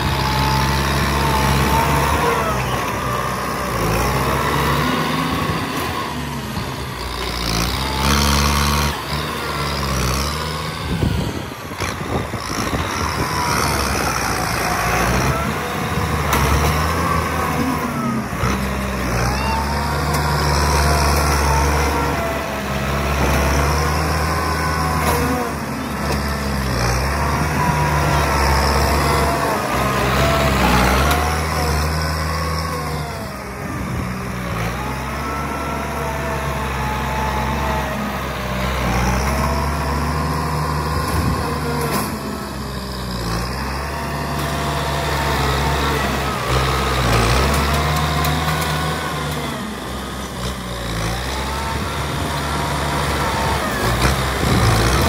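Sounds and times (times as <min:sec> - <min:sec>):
dozer blade pushing soil and rocks: 0:00.0 - 0:55.0
tractor diesel engine under load: 0:00.0 - 0:55.0.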